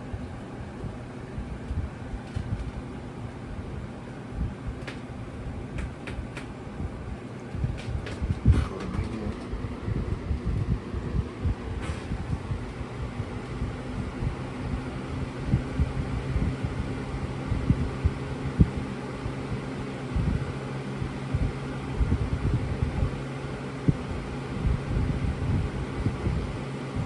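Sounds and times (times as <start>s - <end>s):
box fan motor hum: 0.0s - 27.0s.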